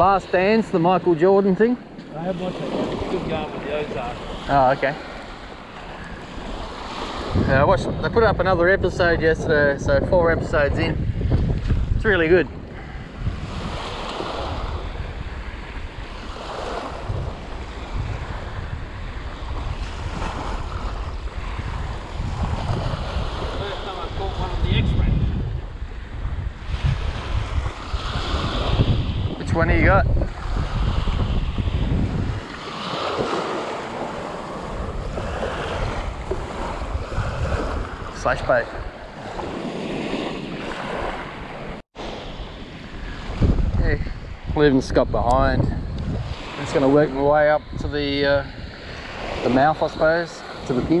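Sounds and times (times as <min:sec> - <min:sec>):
small waves lapping on sand: 0:00.0 - 0:08.3, 0:11.2 - 0:51.0
wind rumbling on microphone: 0:00.0 - 0:51.0.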